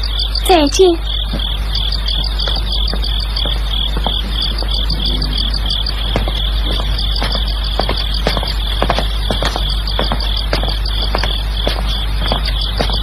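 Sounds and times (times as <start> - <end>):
crickets chirping: 0.0 - 13.0
steady low hum: 0.0 - 13.0.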